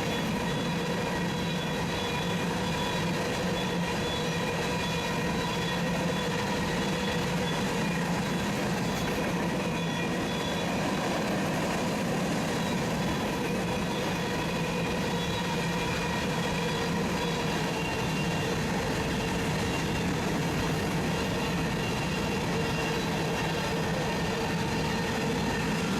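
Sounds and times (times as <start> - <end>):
faint steady tones: 0.0 - 25.9
freight train cars on rails: 0.0 - 25.9.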